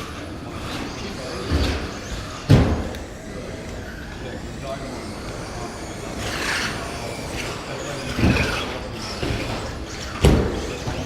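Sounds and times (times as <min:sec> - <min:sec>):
rc trucks motor whine: 0:00.0 - 0:11.0.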